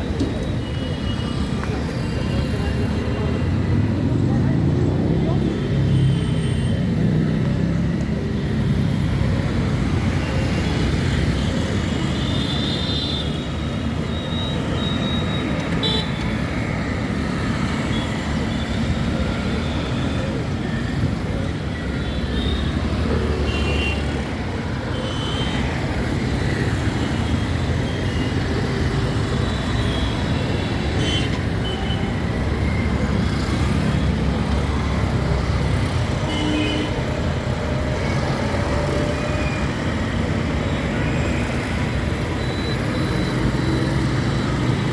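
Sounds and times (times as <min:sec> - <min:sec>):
rumble of passing vehicles: 0:00.0 - 0:44.9.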